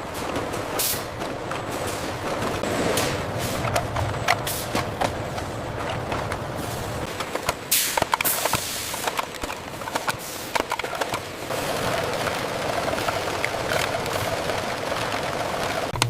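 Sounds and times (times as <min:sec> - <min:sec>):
machinery clicking and clacking: 0:00.0 - 0:16.0
mechanical whir: 0:00.0 - 0:16.0.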